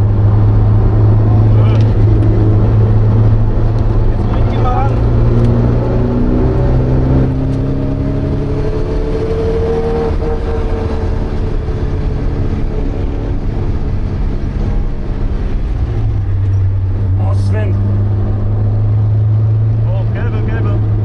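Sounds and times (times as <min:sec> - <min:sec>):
car engine revving: 0:00.0 - 0:21.0
road and tyre noise: 0:00.0 - 0:21.0.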